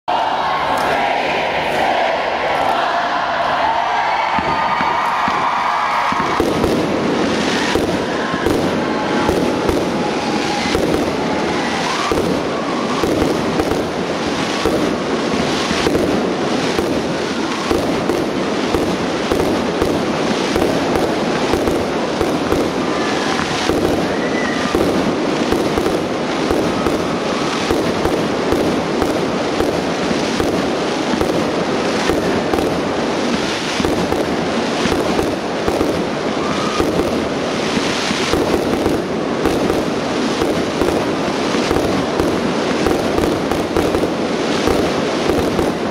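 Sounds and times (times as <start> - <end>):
fireworks bangs and crackling: 0.6 - 45.9.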